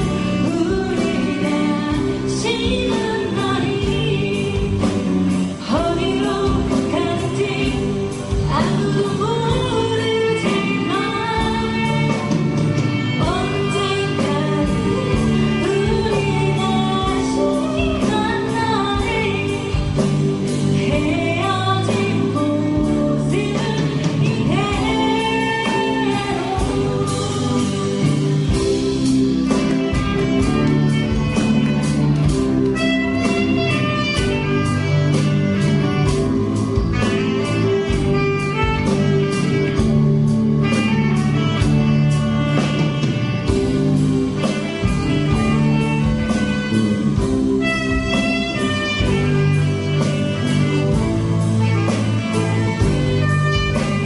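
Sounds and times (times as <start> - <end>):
live band playing: 0.0 - 54.0
steady drum beat: 0.0 - 54.0.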